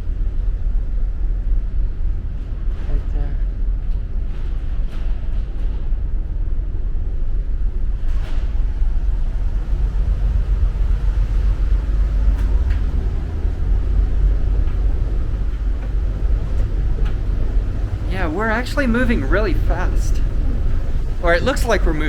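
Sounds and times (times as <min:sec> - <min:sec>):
ferry engine low rumble: 0:00.0 - 0:22.0.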